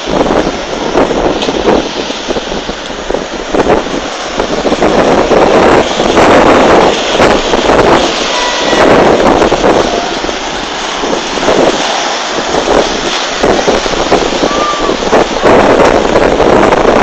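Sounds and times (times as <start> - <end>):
seawater rushing through street: 0.0 - 17.0
storm waves breaking: 0.0 - 17.0
wind buffeting microphone: 0.0 - 17.0.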